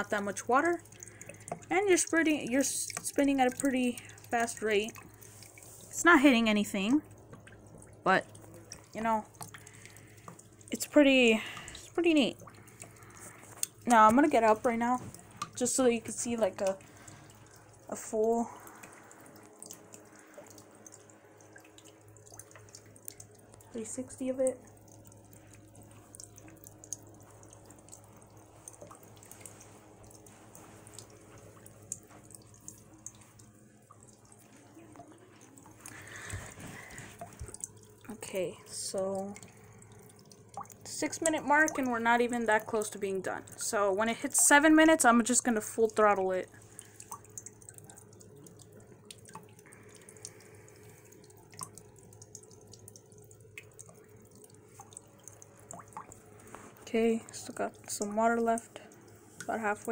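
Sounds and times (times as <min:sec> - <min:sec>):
small drip ticks: 0:00.0 - 0:59.9
water splashing into tub: 0:00.0 - 0:59.9
water trickling and dripping: 0:00.0 - 0:59.9.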